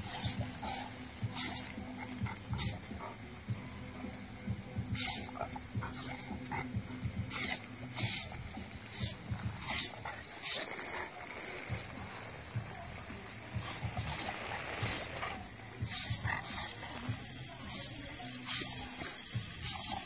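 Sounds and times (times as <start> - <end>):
water jet hissing: 0.0 - 20.0
water splattering bursts: 0.0 - 20.0.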